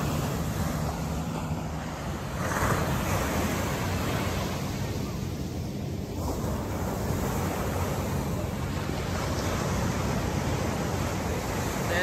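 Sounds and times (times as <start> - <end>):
surf on beach: 0.0 - 12.0.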